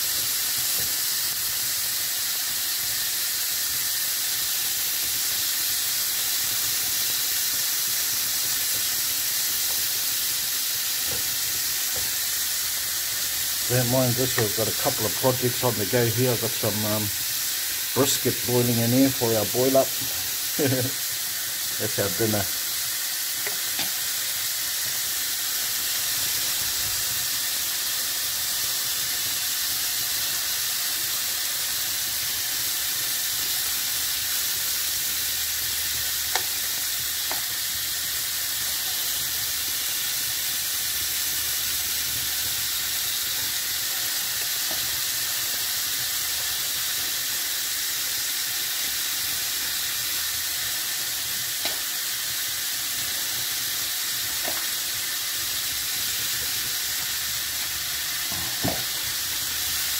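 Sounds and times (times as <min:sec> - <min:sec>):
chicken sizzling in a frying pan: 0:00.0 - 0:59.9.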